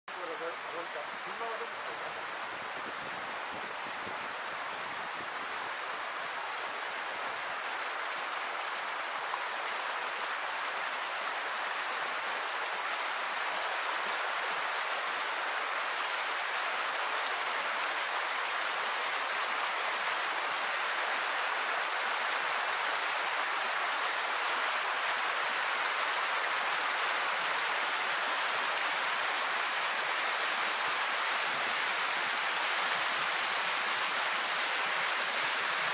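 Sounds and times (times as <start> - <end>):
river water cascading: 0.1 - 35.9.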